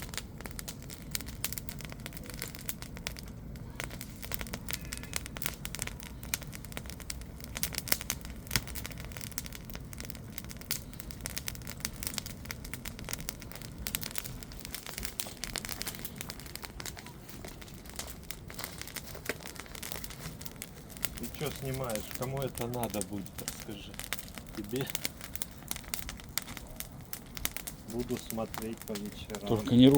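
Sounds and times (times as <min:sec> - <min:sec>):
low steady fire rumble: 0:00.0 - 0:29.9
wood crackling and popping: 0:00.0 - 0:29.9.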